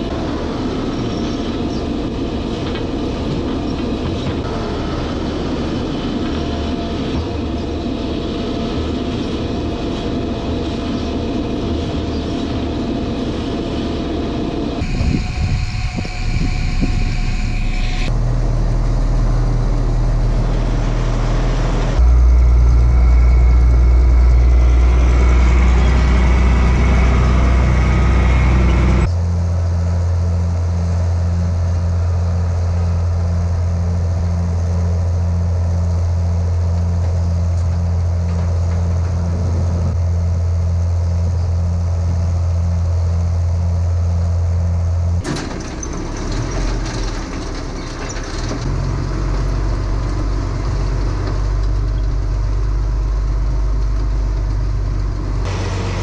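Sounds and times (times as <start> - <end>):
tractor driving: 0.0 - 56.0
tractor engine running: 0.0 - 56.0
feed mixer pulsing hum: 4.4 - 45.1, 50.0 - 56.0.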